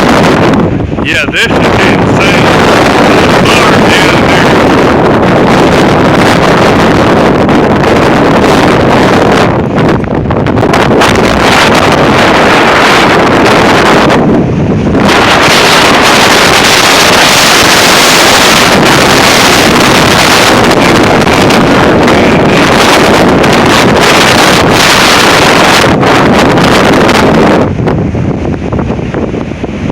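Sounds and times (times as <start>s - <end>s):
wind gusts on microphone: 0.0s - 29.9s.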